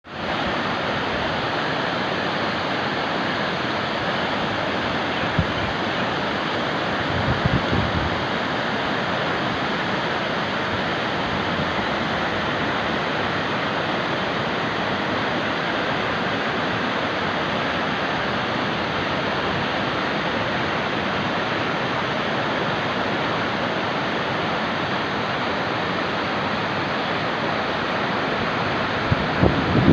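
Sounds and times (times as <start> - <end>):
river water rushing: 0.1 - 29.9.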